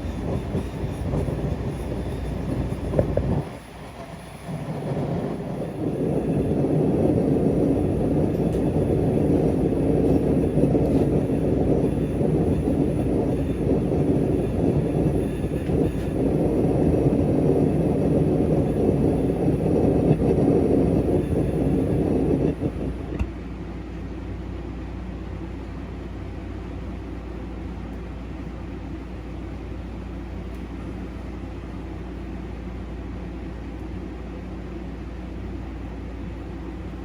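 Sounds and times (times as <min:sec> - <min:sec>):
gas forge burner rumbling: 0:00.0 - 0:37.0.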